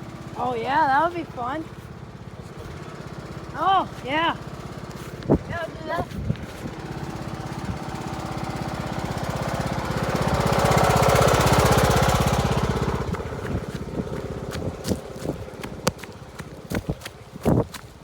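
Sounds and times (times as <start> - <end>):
riding lawn mower engine running: 0.0 - 18.0.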